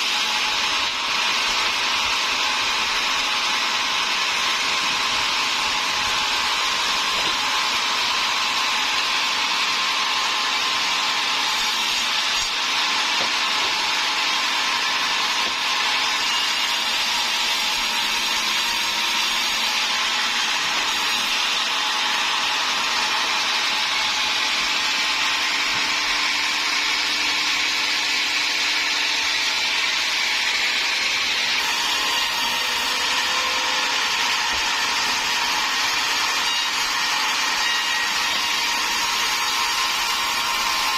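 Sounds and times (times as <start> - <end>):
saw cutting through timber: 0.0 - 40.9.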